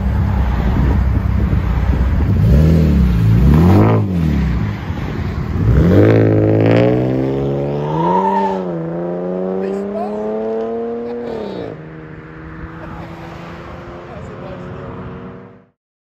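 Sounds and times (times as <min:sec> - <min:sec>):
car engine idling and revving: 0:00.0 - 0:15.8.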